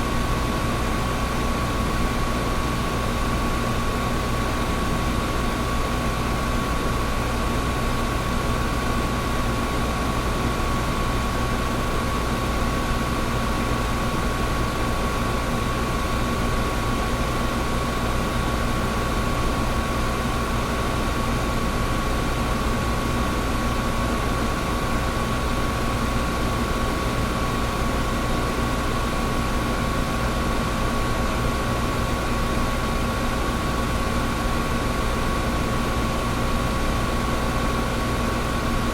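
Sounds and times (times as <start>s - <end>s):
air conditioner running: 0.0s - 38.9s.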